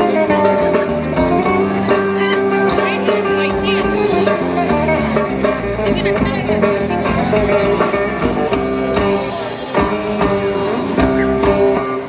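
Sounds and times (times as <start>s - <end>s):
electric guitar: 0.0s - 12.0s
rock band playing live: 0.0s - 12.0s.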